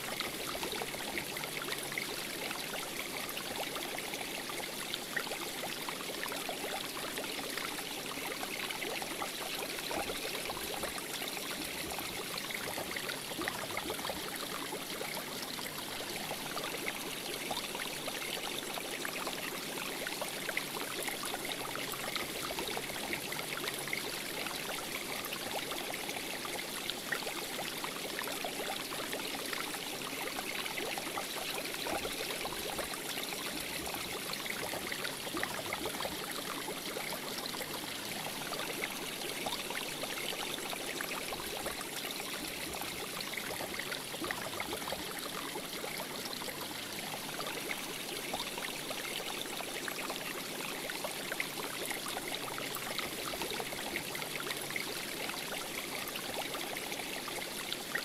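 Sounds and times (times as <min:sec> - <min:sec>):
water running in aquarium: 0:00.0 - 0:58.0.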